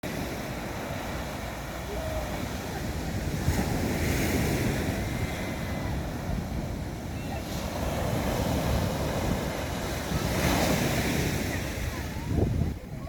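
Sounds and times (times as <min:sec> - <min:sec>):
waves breaking on shore: 0:00.0 - 0:13.0
wind buffeting microphone: 0:00.1 - 0:13.0.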